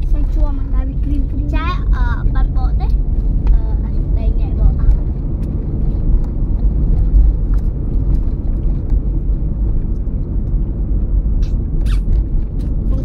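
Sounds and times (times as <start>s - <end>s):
road and tyre noise: 0.0s - 13.0s.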